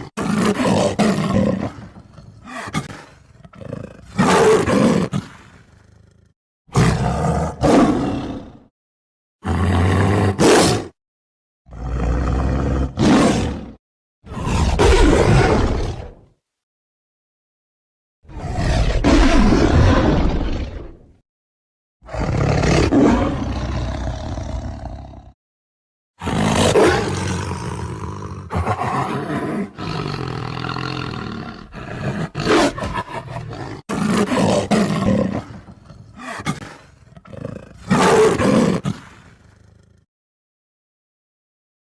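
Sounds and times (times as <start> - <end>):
tiger roaring and growling: 0.0 - 8.7, 9.4 - 11.0, 11.7 - 16.4, 18.3 - 21.2, 22.0 - 25.4, 26.2 - 40.0.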